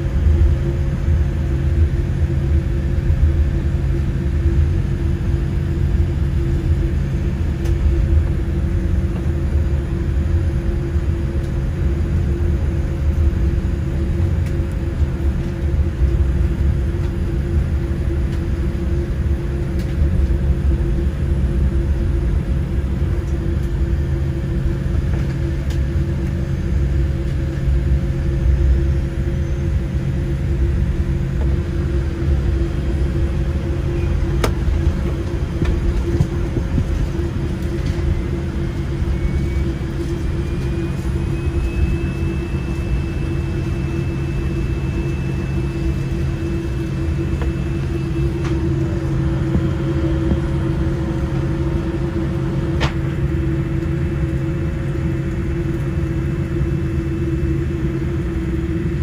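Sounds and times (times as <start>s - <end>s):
airliner cabin rumble: 0.0s - 59.0s
high whine: 0.0s - 59.0s.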